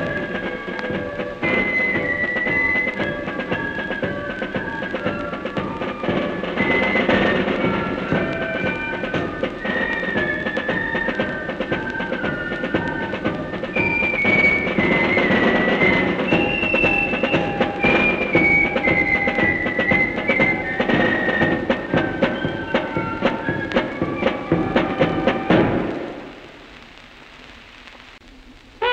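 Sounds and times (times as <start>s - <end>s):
snare drum strokes and rolls: 0.0s - 26.4s.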